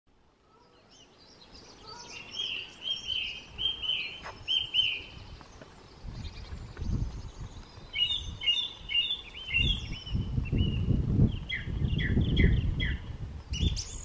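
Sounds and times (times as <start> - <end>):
faint bird chirps: 0.4 - 14.0
bird singing slurred notes: 0.5 - 14.0.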